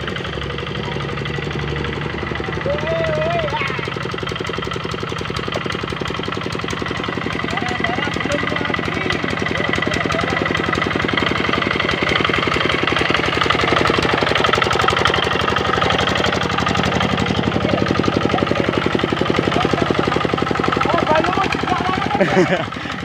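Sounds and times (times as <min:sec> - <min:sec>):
diesel engine knocking: 0:00.0 - 0:23.0.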